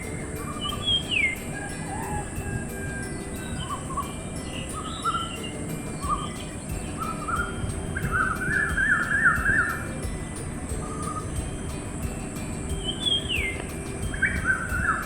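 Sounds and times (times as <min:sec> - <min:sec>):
birds chirping: 0:00.0 - 0:15.0
steady high hiss: 0:00.0 - 0:15.0.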